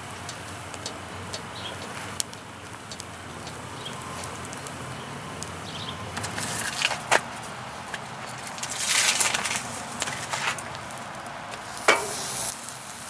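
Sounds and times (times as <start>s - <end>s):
kindling fire crackling: 0.0s - 13.0s.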